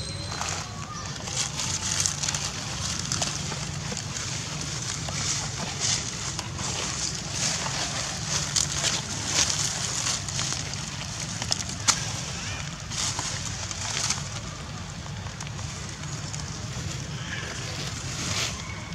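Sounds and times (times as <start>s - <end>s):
footsteps on dry leaves: 0.0s - 18.9s
steady low rumble: 0.0s - 18.9s.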